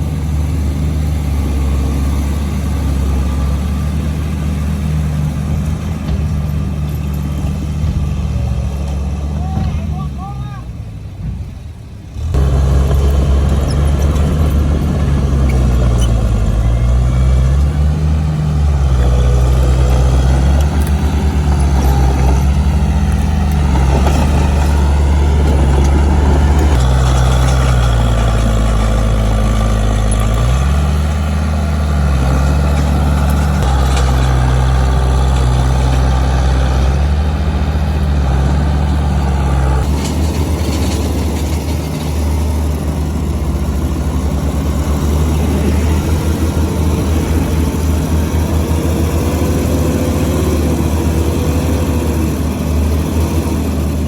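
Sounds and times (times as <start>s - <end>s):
heavy diesel engine running hard: 0.0s - 54.0s.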